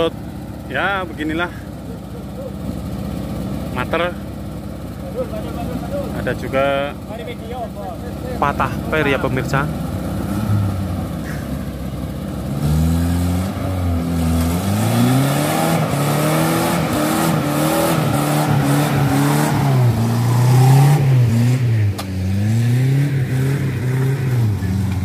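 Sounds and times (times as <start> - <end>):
jeep engine revving unevenly: 0.0 - 25.0.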